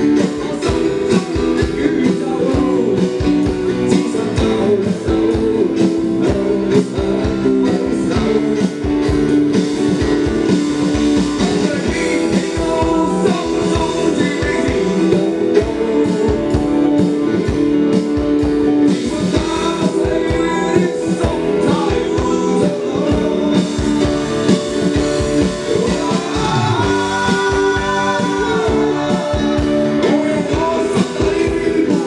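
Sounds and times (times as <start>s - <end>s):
person singing: 0.0s - 9.9s, 11.2s - 32.0s
acoustic guitar: 0.0s - 32.0s
drum kit beat: 0.0s - 32.0s
electric bass: 0.0s - 32.0s
keyboard: 0.0s - 32.0s.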